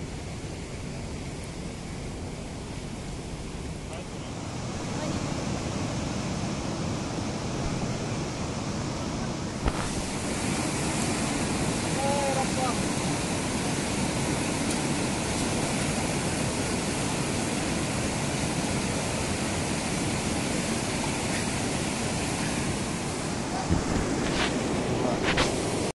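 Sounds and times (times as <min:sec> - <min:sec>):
fast-flowing stream water: 0:00.0 - 0:25.9.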